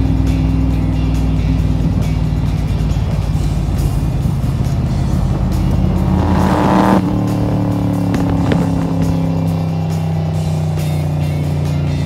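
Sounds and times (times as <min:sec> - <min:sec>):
car engine cruising: 0:00.0 - 0:12.0.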